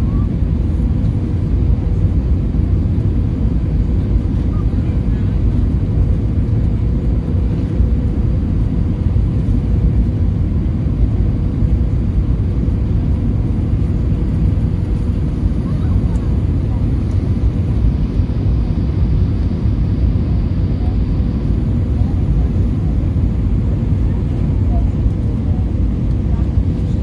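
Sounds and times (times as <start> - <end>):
airplane engines rumbling: 0.0 - 27.0.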